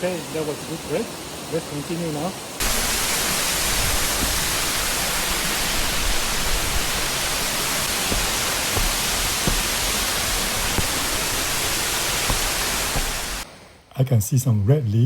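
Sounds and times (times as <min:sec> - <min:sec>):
waterfall pouring: 0:00.0 - 0:13.5.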